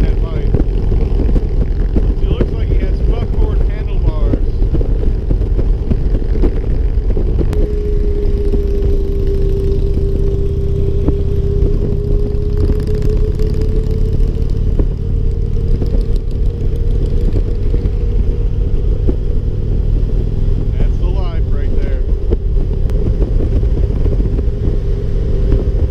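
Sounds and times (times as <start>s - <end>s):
motorcycle engine: 0.0s - 25.9s
singing whine from front wheel: 0.0s - 25.9s
wind noise: 0.0s - 25.9s.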